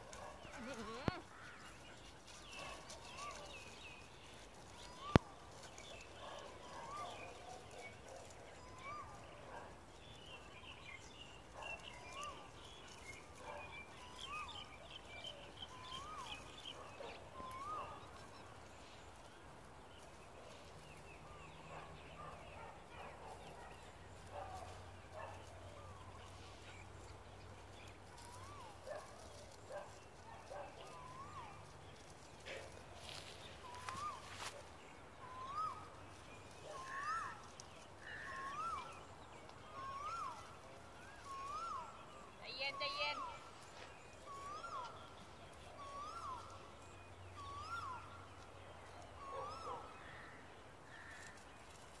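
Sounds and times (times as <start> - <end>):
birds calling faintly: 0.0 - 52.0.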